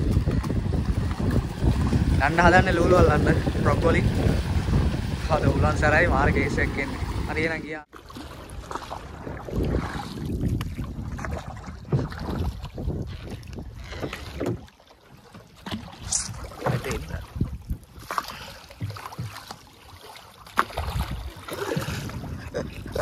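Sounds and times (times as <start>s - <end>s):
wind buffeting microphone: 0.0s - 7.8s, 8.4s - 14.6s, 15.8s - 19.0s, 20.7s - 23.0s
paddle stroke splashes: 0.0s - 23.0s
water splashing against canoe: 0.0s - 23.0s.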